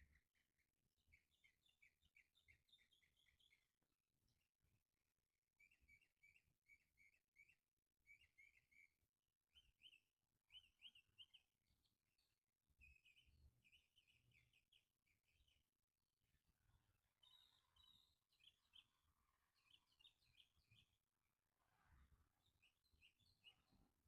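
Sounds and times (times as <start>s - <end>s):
faint high bird chirps: 0.0s - 4.8s, 5.6s - 24.0s.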